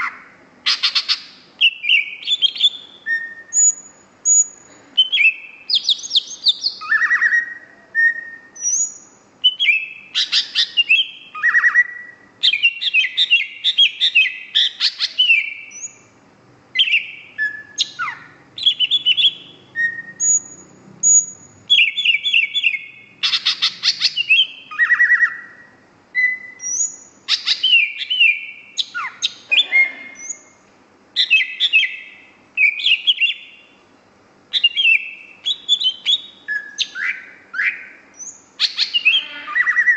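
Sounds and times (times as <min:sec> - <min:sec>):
bird singing chirps and trills: 0:00.0 - 0:16.1, 0:16.8 - 0:30.6, 0:31.2 - 0:33.9, 0:34.5 - 0:39.9.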